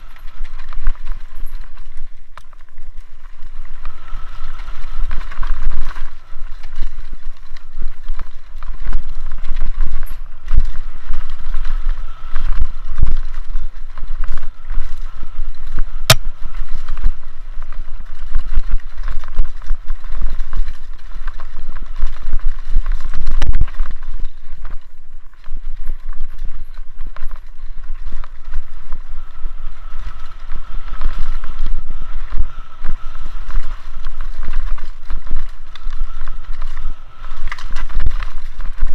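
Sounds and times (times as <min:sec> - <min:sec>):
bike tyres rattling over roots: 0:00.0 - 0:38.9
wind rumble on microphone: 0:00.0 - 0:38.9.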